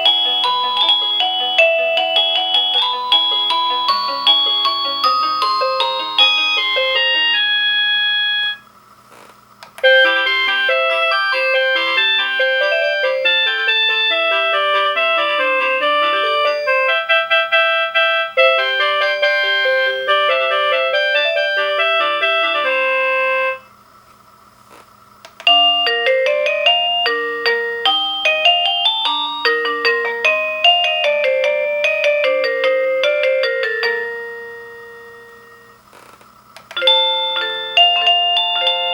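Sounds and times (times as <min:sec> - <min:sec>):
electronic doorbell chime tunes: 0:00.0 - 0:08.7, 0:09.8 - 0:23.7, 0:25.4 - 0:35.9, 0:36.8 - 0:38.9.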